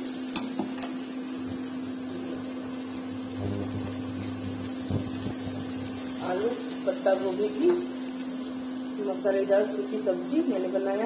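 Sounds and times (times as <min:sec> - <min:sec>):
induction cooktop electrical hum: 0:00.0 - 0:11.0.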